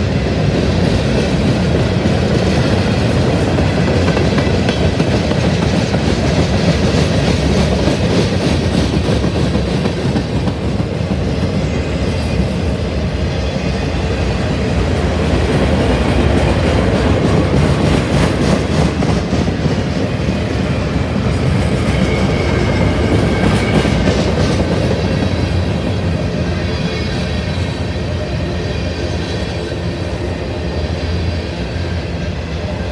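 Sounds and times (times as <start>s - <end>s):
freight train cars rolling past: 0.0s - 32.9s.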